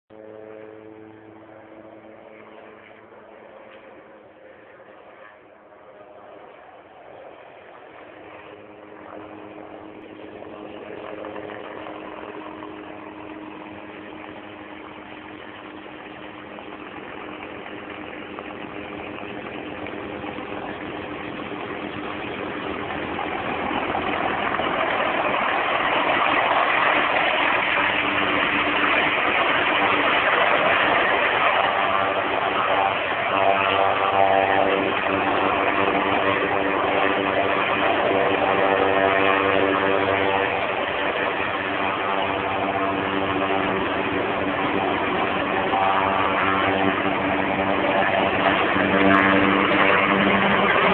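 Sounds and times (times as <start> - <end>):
helicopter flying low overhead: 0.1 - 50.9.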